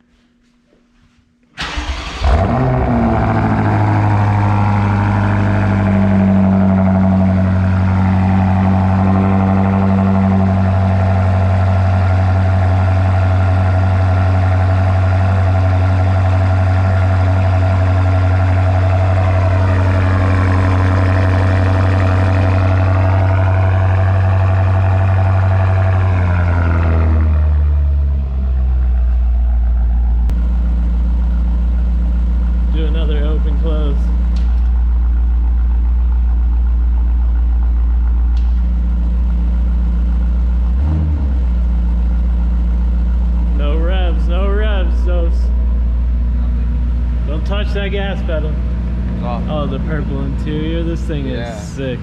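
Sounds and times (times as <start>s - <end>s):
car engine starting and idling: 1.5s - 52.0s.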